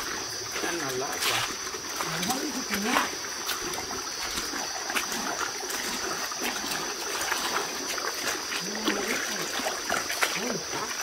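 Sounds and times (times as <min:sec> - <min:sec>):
night insects droning: 0:00.0 - 0:11.0
river water trickling: 0:00.0 - 0:11.0.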